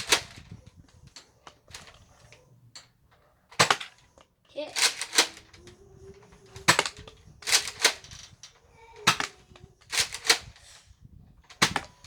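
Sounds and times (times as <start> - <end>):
toy blaster plastic clacks: 0.0 - 10.9, 11.5 - 12.0.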